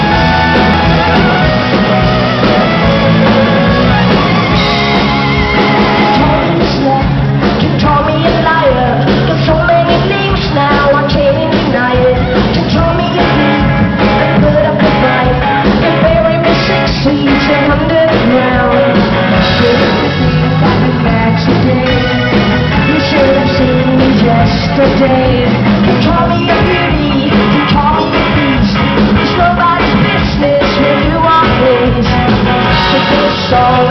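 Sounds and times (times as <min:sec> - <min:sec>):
person singing: 0:00.0 - 0:33.9
rock band playing: 0:00.0 - 0:33.9.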